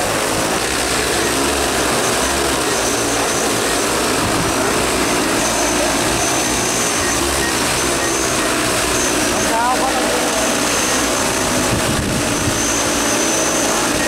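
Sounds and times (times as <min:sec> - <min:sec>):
drone propellers hovering: 0:00.0 - 0:14.0.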